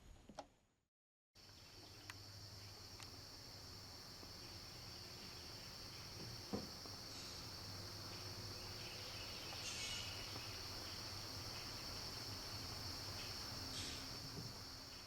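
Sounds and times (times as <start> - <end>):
insects trilling: 1.4 - 15.0.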